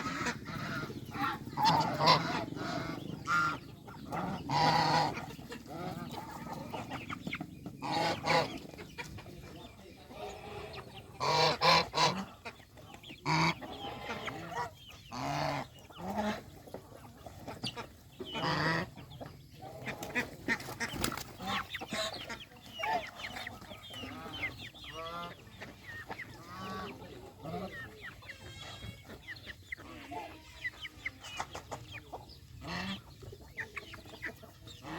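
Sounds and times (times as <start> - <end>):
geese honking: 0.0 - 16.6, 17.6 - 31.9
chickens clucking: 0.0 - 34.9.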